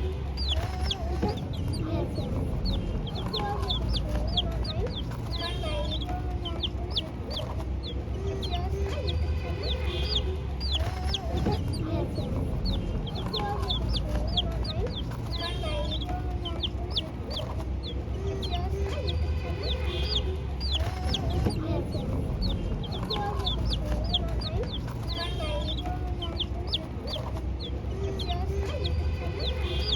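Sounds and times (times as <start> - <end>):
chicks peeping: 0.0 - 29.9
steady low rumble: 0.0 - 29.9.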